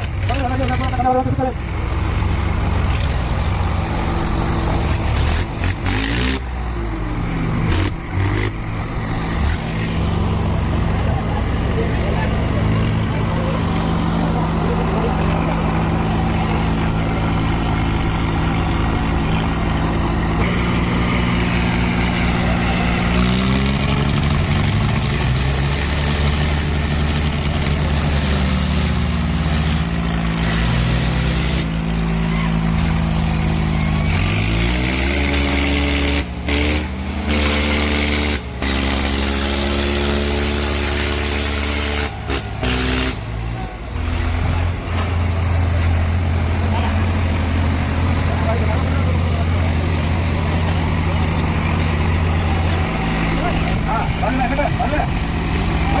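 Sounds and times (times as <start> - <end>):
tractor diesel engines revving: 0.0 - 56.0.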